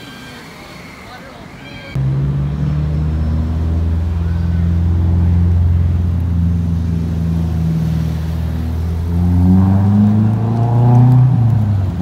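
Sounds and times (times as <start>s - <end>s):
car engines humming: 0.0s - 12.0s
car accelerating: 1.9s - 12.0s.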